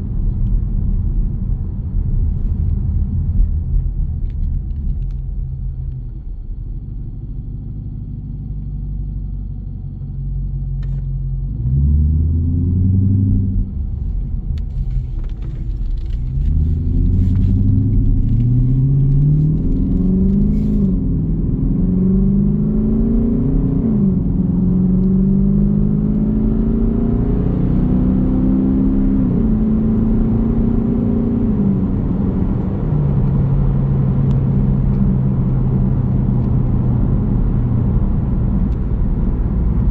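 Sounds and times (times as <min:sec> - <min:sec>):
car exhaust rumbling: 0:00.0 - 0:39.9.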